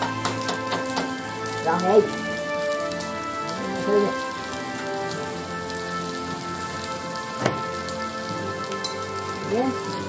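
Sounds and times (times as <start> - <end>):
rice sizzling in pot: 0.0 - 10.0.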